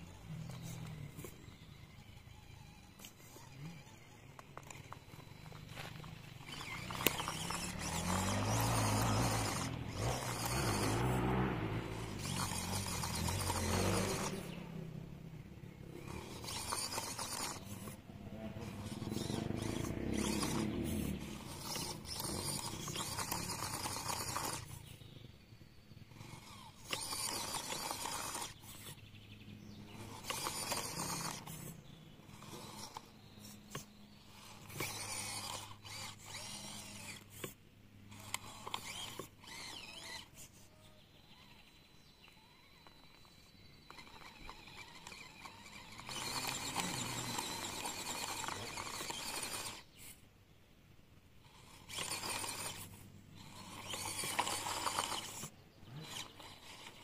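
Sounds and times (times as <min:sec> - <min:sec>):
small electric motor running: 0:00.0 - 0:50.2, 0:51.4 - 0:57.0.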